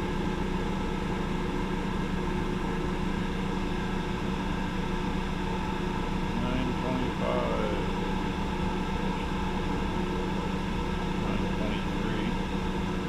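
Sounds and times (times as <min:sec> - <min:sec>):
lathe humming: 0:00.0 - 0:13.0.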